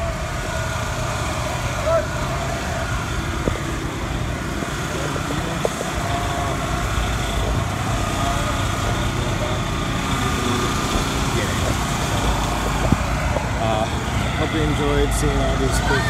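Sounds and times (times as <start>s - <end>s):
faint distant voices: 0.0s - 16.0s.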